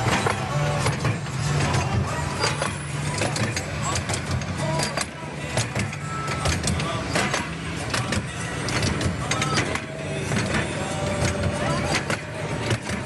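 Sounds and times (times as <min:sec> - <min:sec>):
train cars clicking and rattling: 0:00.0 - 0:13.0
train rumbling along track: 0:00.0 - 0:13.0.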